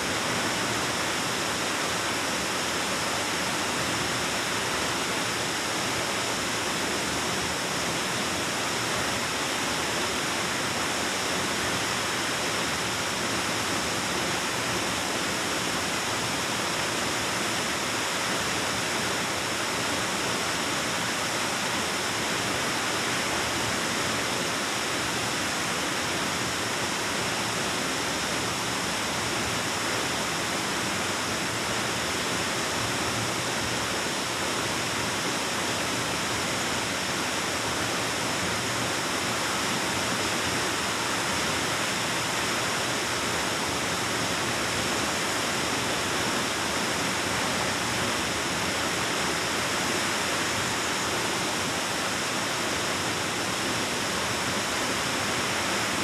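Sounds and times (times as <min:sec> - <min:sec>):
waterfall rushing in a cave: 0:00.0 - 0:56.0.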